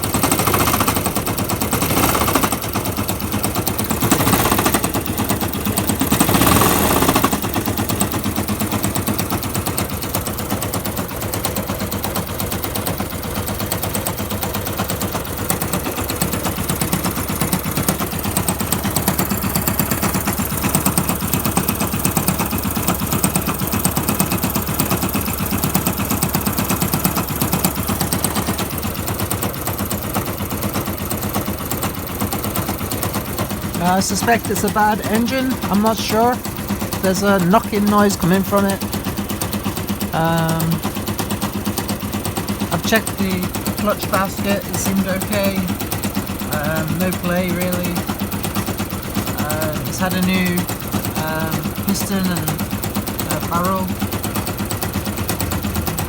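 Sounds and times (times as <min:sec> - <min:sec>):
motorcycle engine knocking: 0:00.0 - 0:56.0.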